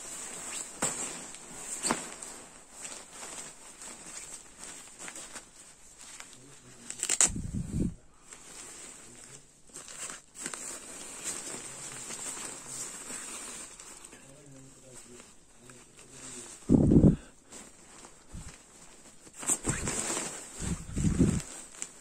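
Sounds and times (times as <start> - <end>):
nylon fabric rustling and crinkling: 0.0 - 22.0.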